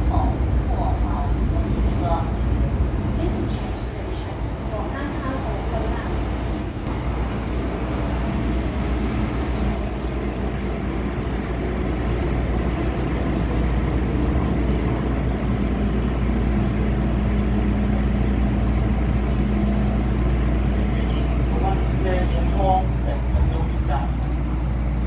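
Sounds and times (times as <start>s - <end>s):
train interior rumble and hum: 0.0s - 25.0s.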